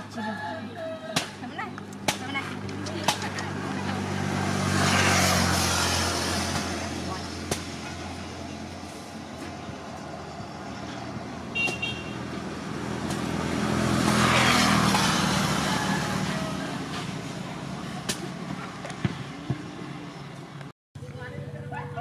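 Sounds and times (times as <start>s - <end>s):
motorbike passing: 0.0s - 22.0s.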